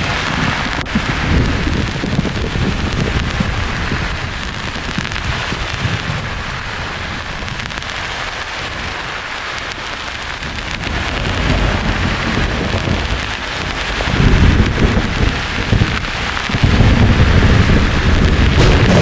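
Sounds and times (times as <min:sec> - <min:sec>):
thunder rumbling: 0:00.0 - 0:09.2, 0:10.0 - 0:19.0
rain-like white noise hiss: 0:00.0 - 0:19.0.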